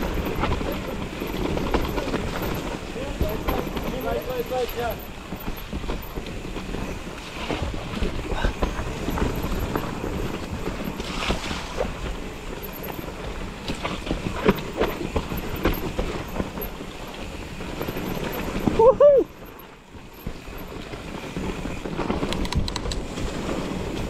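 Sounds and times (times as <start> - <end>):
bike knocks and rattles: 0.0 - 24.0
bike tyres rumbling on dirt: 0.0 - 24.0.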